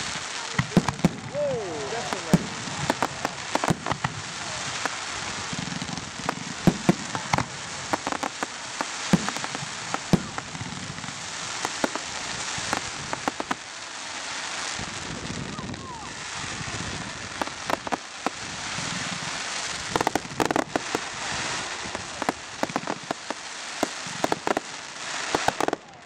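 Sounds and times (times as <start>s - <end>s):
fireworks bangs and crackles: 0.0s - 26.0s
steady hiss: 0.0s - 26.0s.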